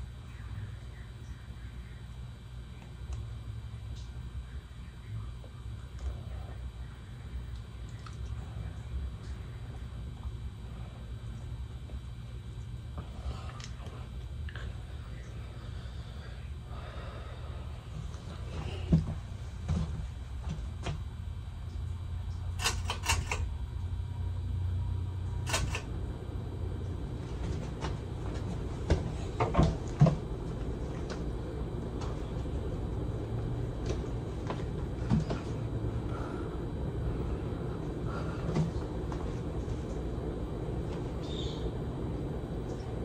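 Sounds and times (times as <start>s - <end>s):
ceiling fan whirring: 0.0s - 43.0s.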